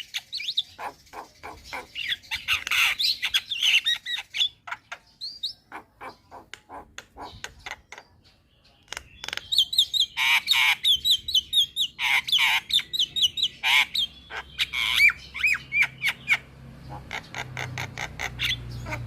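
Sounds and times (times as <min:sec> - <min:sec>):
bird chirps and squawks: 0:00.0 - 0:19.0.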